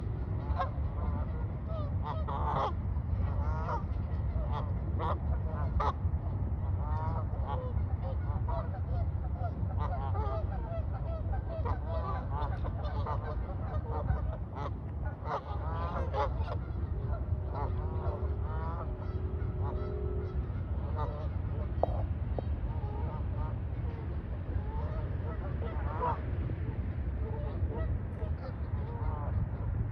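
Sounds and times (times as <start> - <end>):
geese honking: 0.0 - 29.8
faint steady hum: 0.0 - 29.9
steady low rumble: 0.0 - 29.9.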